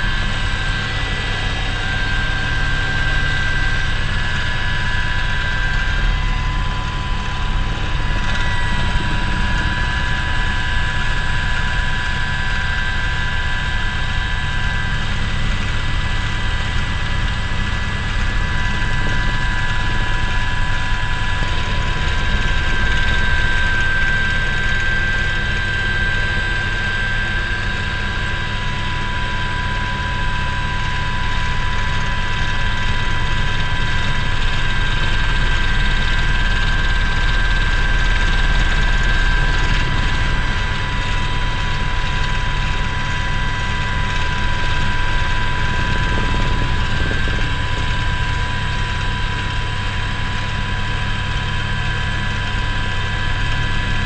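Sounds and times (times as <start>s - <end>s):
helicopter rotor chop: 0.0s - 54.0s
helicopter turbine whine: 0.0s - 54.0s.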